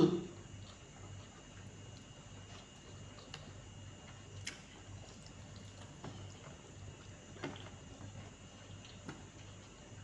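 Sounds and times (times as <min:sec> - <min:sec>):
low steady hum: 0:00.0 - 0:10.0
chewing and lip smacks: 0:00.4 - 0:10.0.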